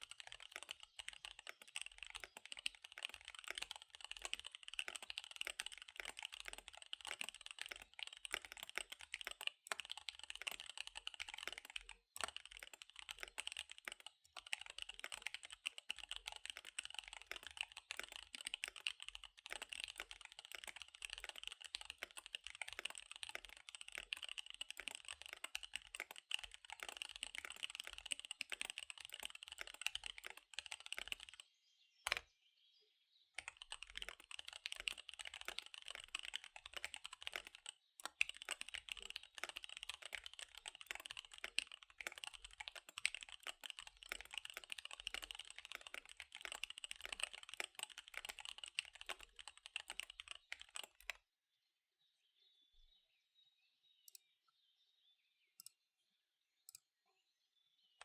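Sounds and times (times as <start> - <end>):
fast mechanical keyboard typing: 0.0 - 31.4, 33.4 - 51.2.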